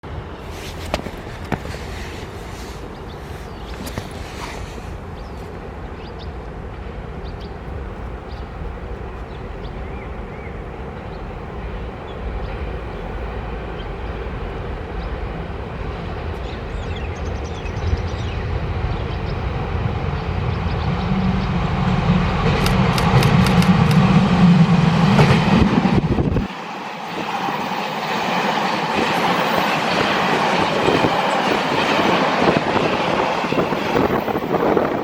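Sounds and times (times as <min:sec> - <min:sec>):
diesel train engine: 0:00.0 - 0:35.0
rail noise: 0:00.0 - 0:35.0.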